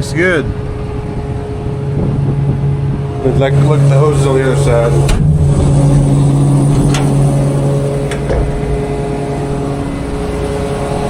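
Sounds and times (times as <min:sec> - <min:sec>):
machine engine and hydraulics running: 0:00.0 - 0:11.0.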